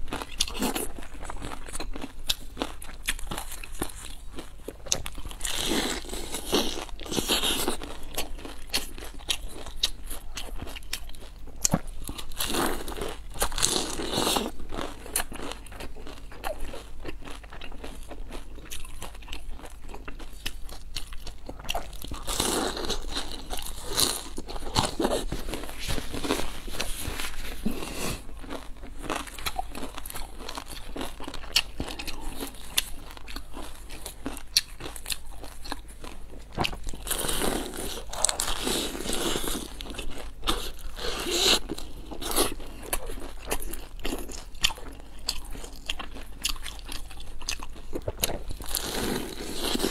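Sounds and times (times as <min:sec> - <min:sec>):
crunchy bites of fried food: 0:00.0 - 0:49.9
chewing: 0:00.1 - 0:49.9.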